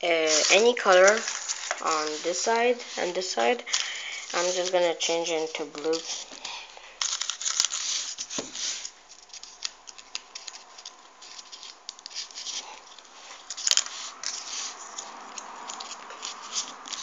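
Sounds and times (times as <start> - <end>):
paper rustling and clicking: 0.3 - 2.7, 3.5 - 17.0.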